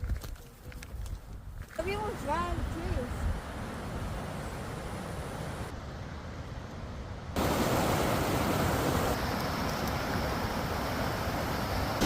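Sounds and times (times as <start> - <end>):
steady rushing noise: 2.2 - 12.0.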